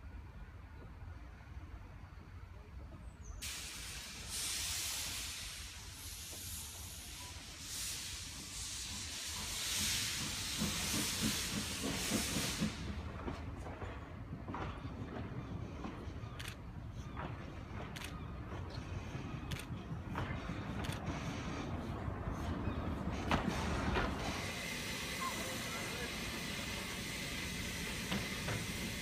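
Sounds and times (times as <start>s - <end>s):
steam locomotive hissing steam: 3.4s - 29.0s.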